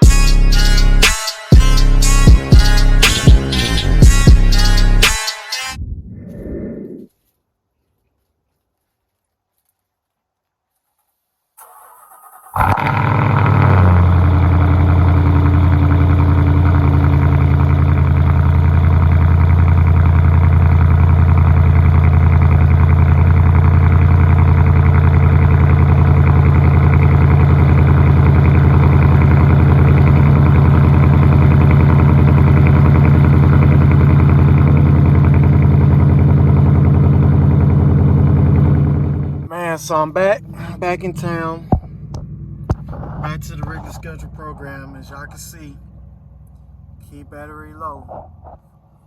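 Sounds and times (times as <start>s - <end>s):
car engine idling: 0.0s - 5.2s, 11.6s - 49.0s.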